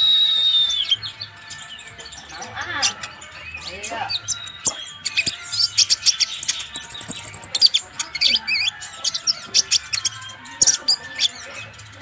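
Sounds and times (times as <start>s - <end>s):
sunbird chirping song: 0.0s - 12.0s.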